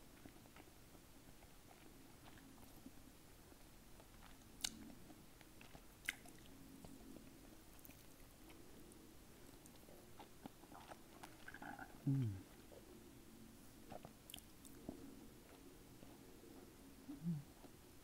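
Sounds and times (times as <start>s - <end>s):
chewing with wet mouth clicks: 0.1s - 12.9s, 13.8s - 16.7s.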